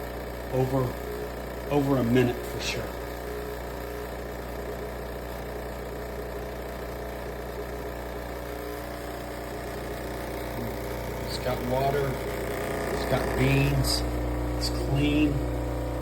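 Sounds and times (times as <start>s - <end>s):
espresso machine humming: 0.0s - 16.0s.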